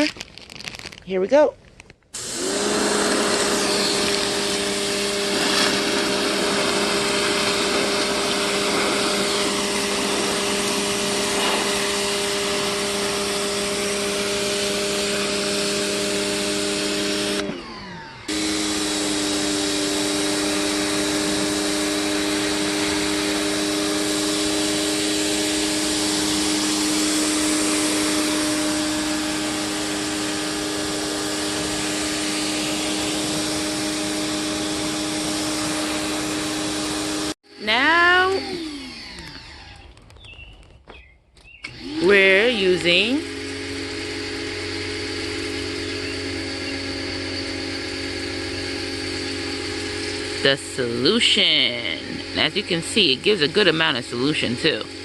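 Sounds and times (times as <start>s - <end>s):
water jet hissing on concrete: 2.2s - 17.4s, 18.3s - 37.3s, 42.0s - 47.6s, 48.4s - 55.0s
pressure washer motor whine: 2.2s - 40.7s, 41.5s - 55.0s.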